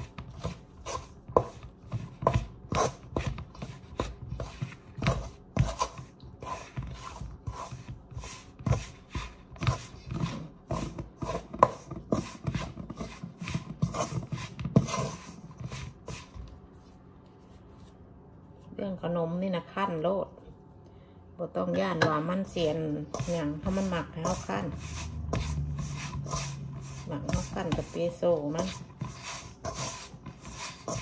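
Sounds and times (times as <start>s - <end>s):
spatula scraping metal bowl: 0.0s - 16.4s, 21.7s - 31.0s.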